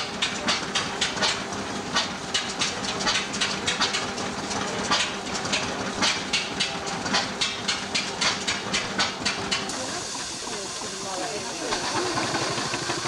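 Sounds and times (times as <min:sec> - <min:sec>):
stationary engines running: 0:00.0 - 0:13.0.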